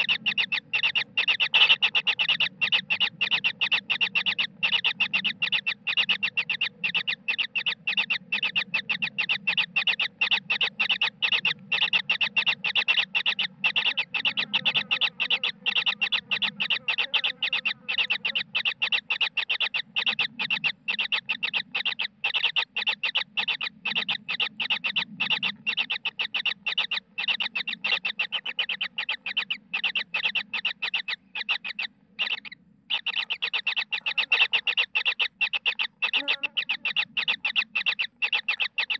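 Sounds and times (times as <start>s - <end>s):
chicks shrill begging calls: 0.0s - 38.9s.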